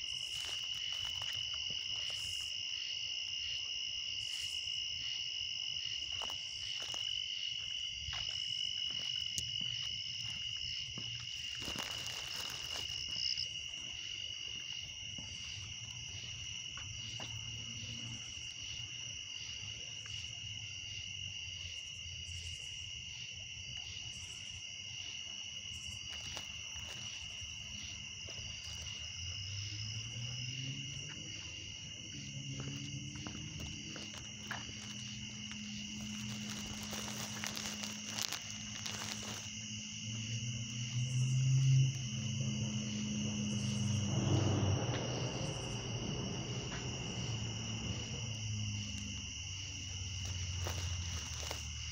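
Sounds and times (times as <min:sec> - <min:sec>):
night insects trilling: 0:00.0 - 0:51.9.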